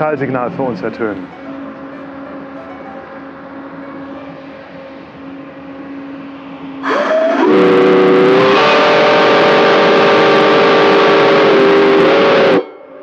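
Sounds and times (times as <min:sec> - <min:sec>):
steam whistle blast: 0:01.3 - 0:13.0.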